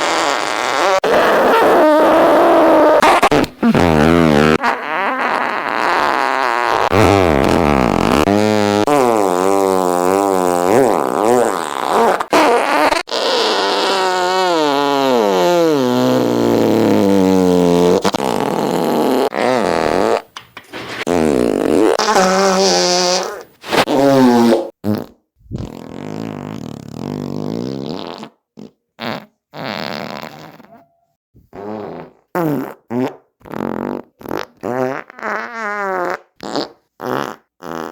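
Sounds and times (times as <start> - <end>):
fart sound effects: 0.0 - 37.9.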